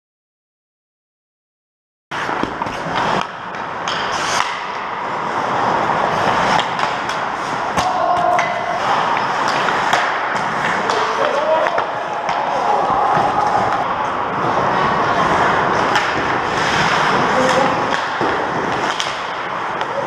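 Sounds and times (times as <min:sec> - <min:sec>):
hockey sticks and puck clacking: 0:02.1 - 0:20.0
skate blades scraping ice: 0:02.1 - 0:20.0.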